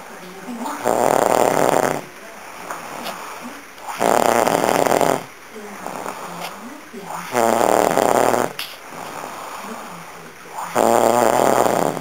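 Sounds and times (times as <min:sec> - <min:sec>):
person snoring: 0:00.7 - 0:12.0
soft breathing: 0:00.7 - 0:12.0.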